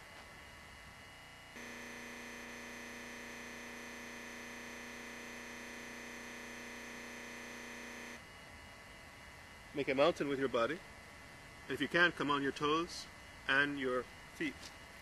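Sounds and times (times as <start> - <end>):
steady buzzing hum: 0.0 - 15.0.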